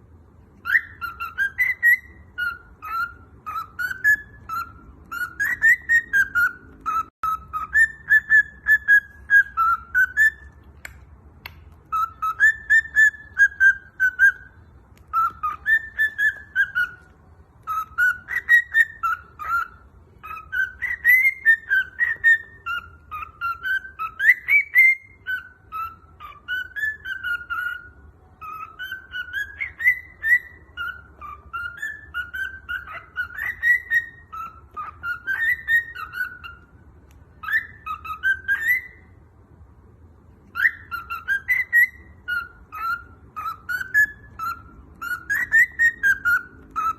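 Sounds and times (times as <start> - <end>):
cockatiel whistling: 0.2 - 39.3, 40.1 - 46.9.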